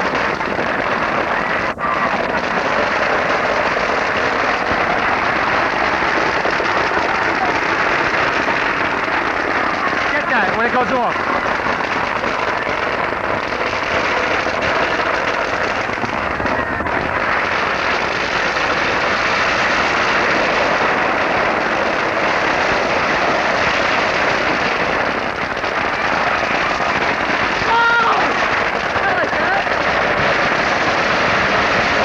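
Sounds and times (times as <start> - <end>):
fireworks crackling and popping: 0.0 - 32.0.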